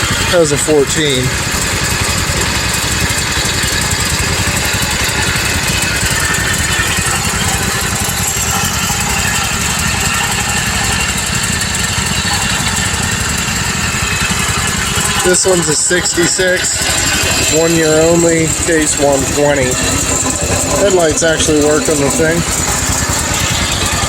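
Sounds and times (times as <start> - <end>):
small tractor engines idling: 0.0 - 24.0.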